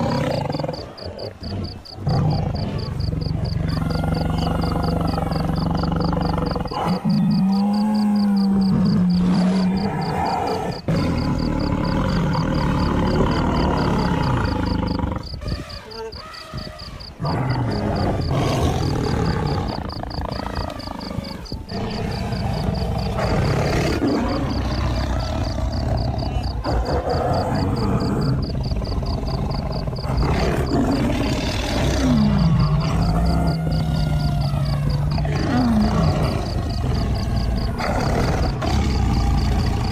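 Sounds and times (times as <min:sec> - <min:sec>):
wildebeest grunting and moaning: 0:00.0 - 0:39.9.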